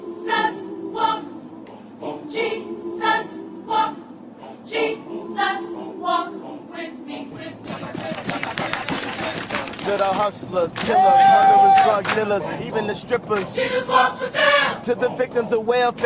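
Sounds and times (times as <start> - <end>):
gospel choir singing: 0.0 - 15.7.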